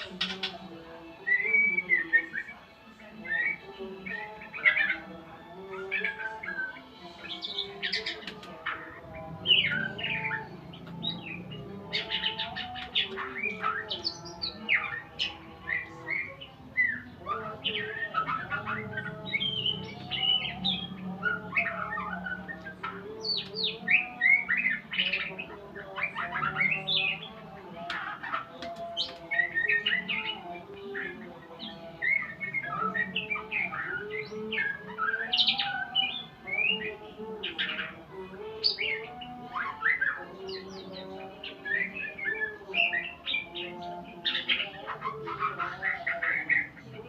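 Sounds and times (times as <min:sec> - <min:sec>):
songbird singing: 0:00.0 - 0:47.0.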